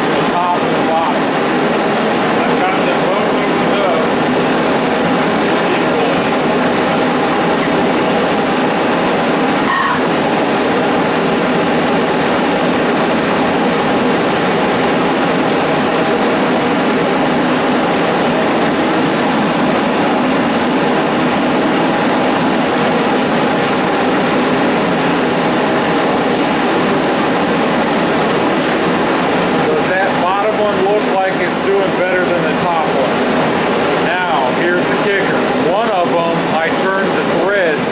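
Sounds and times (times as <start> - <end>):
propane burners rushing: 0.0 - 37.9.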